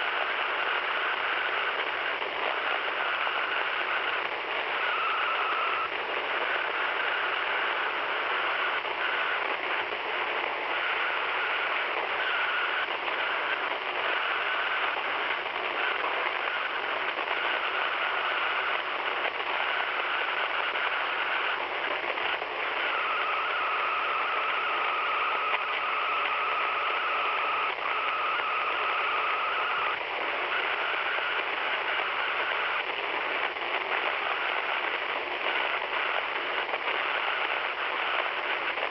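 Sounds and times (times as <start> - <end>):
radio hiss: 0.0 - 38.9
whining interference tone: 0.0 - 38.9.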